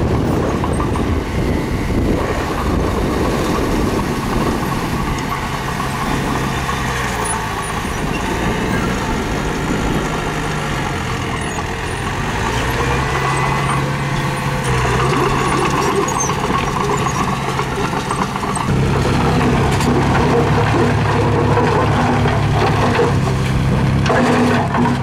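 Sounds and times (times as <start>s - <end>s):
heavy diesel engine under load: 0.0s - 25.0s
rough mechanical clatter: 0.0s - 25.0s.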